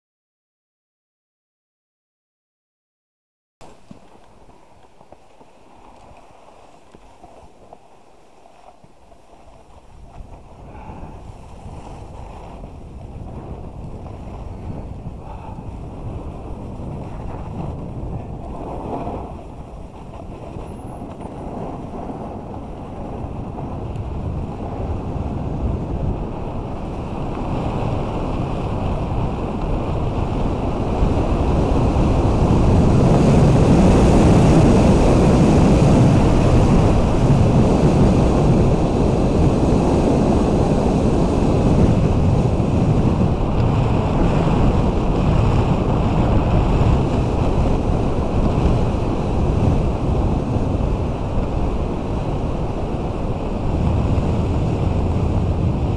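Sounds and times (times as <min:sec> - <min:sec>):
snowboard scraping over snow: 0:03.6 - 0:55.9
wind rushing over microphone: 0:05.7 - 0:55.9.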